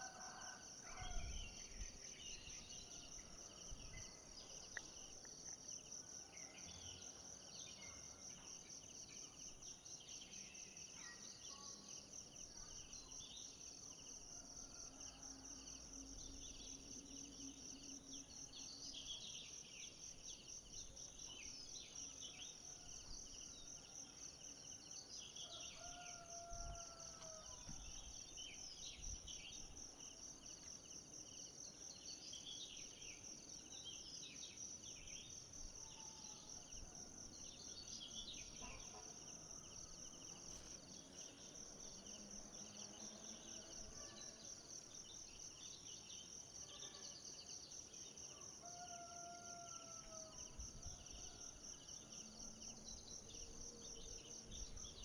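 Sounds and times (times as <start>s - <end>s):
pulsing insect chorus: 0.0s - 55.0s.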